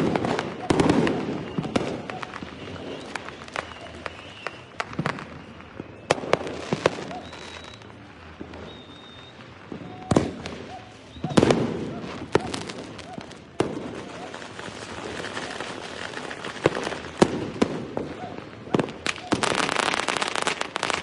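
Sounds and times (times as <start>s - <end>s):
fireworks bangs: 0.0s - 21.0s
fireworks cracking and popping: 0.0s - 21.0s
fireworks whistling: 0.0s - 21.0s.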